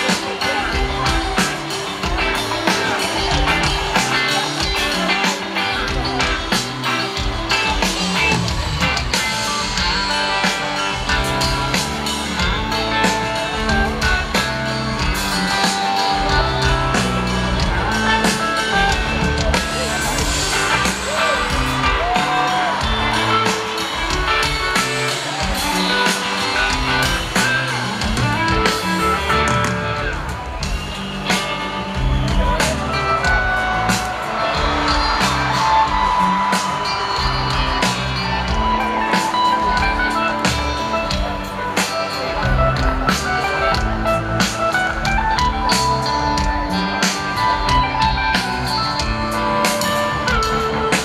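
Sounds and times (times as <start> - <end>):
bass guitar: 0.0 - 51.0
drum kit beat: 0.0 - 51.0
electric guitars: 0.0 - 51.0.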